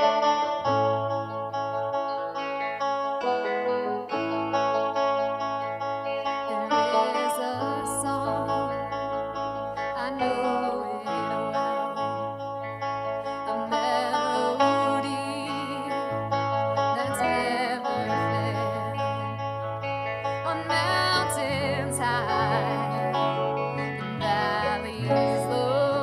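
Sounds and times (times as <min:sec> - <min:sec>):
guitar-led worship song: 0:00.0 - 0:26.0.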